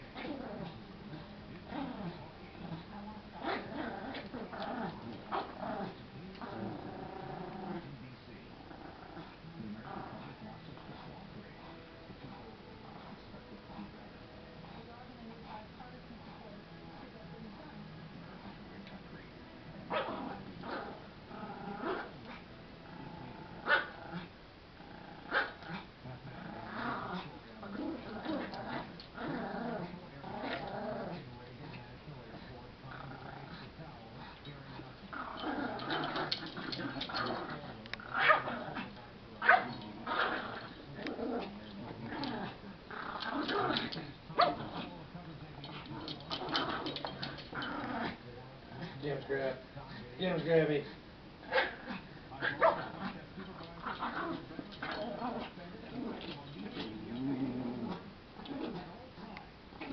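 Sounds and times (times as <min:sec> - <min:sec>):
dogs growling: 0:00.0 - 0:59.9.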